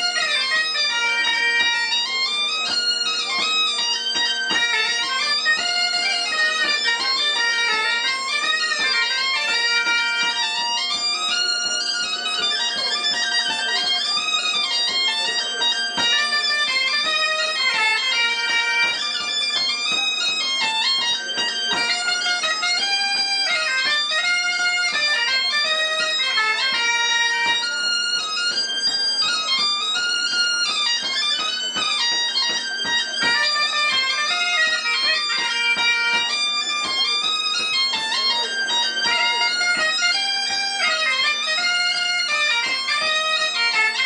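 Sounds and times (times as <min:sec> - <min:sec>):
bagpipe drone: 0:00.0 - 0:44.0
piercing reed melody: 0:00.0 - 0:44.0.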